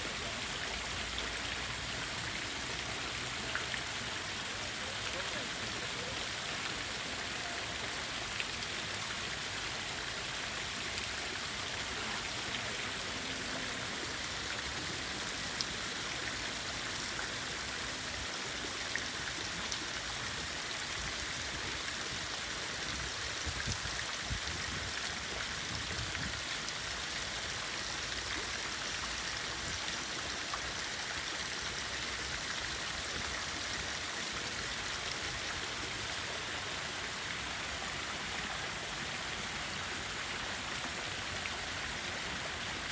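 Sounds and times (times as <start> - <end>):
fountain water splashing into pool: 0.0 - 42.9.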